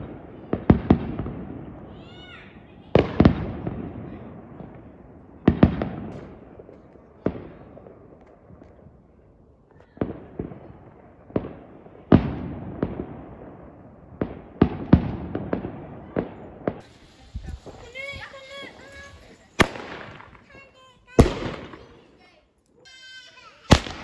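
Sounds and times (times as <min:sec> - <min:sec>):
fireworks exploding: 0:00.0 - 0:24.0.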